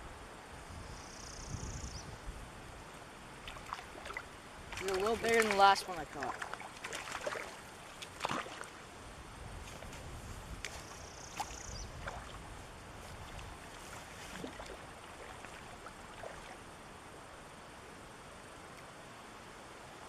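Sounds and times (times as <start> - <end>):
brook water running: 1.9 - 20.0.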